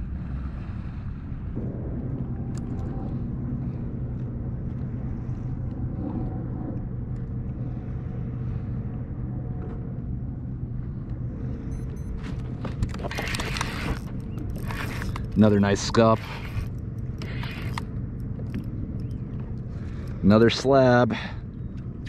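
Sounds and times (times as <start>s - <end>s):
low motor hum: 0.0s - 22.0s
water noise: 0.0s - 22.0s
wind: 0.0s - 22.0s.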